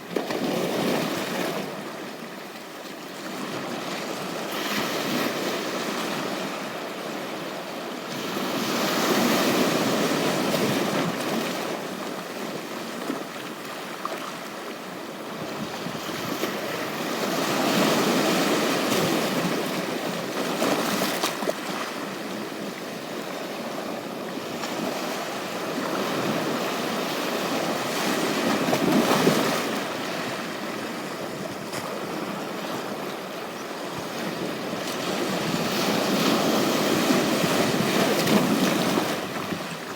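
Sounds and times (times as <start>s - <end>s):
ocean surf on beach: 3.4s - 39.9s.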